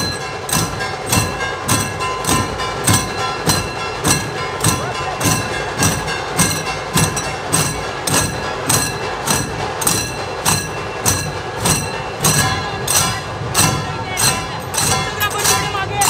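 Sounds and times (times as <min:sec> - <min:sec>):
deep drum beat: 0:00.0 - 0:16.0
metal hand cymbals clashing: 0:00.0 - 0:16.0.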